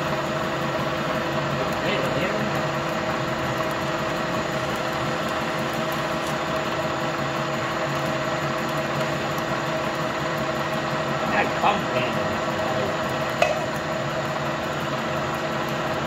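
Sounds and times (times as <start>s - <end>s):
lathe running: 0.0s - 16.0s.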